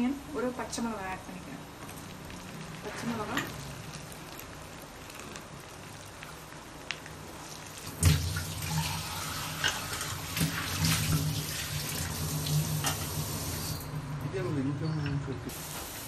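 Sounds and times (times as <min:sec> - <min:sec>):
onions sizzling in oil: 0:00.0 - 0:14.0, 0:15.5 - 0:16.0.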